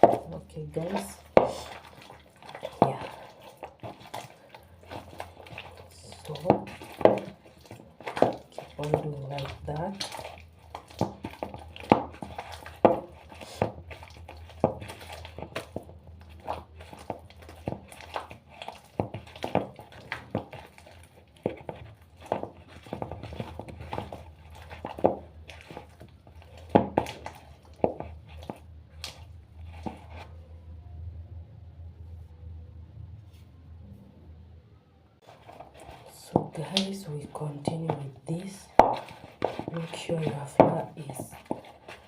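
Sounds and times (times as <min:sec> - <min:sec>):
dough kneaded by hand: 0:00.0 - 0:31.1, 0:35.1 - 0:42.0.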